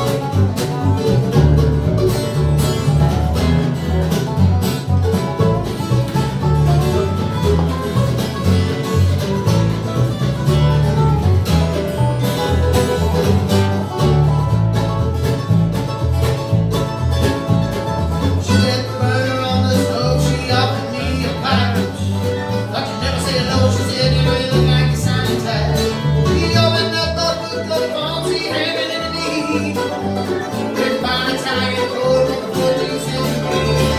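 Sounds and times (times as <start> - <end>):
acoustic guitar: 0.0 - 33.9
fiddle: 0.0 - 33.9
mandolin: 0.0 - 33.9
resonator guitar: 0.0 - 33.9
upright bass: 0.0 - 33.9.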